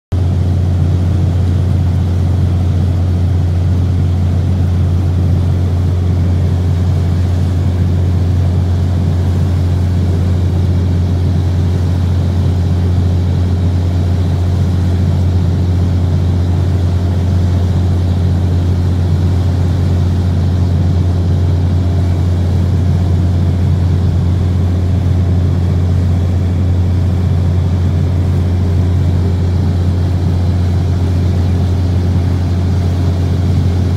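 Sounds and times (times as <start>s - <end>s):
boat engine droning: 0.2s - 33.9s.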